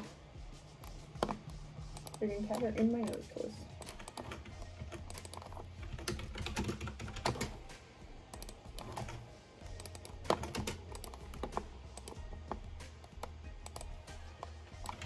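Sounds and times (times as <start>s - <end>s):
background music: 0.0s - 15.0s
typing on keyboard: 0.8s - 7.6s, 8.4s - 15.0s.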